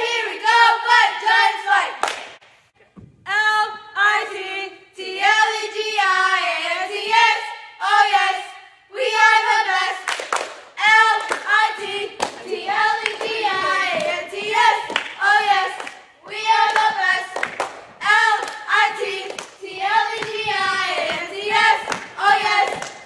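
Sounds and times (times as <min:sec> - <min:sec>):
cheerleaders chanting in unison: 0:00.0 - 0:02.4, 0:03.3 - 0:23.0.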